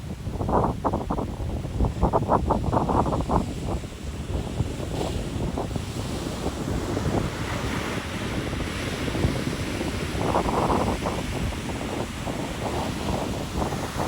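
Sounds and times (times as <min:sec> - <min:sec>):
ocean surf on a beach: 0:00.0 - 0:14.0
wind buffeting microphone: 0:00.0 - 0:14.0.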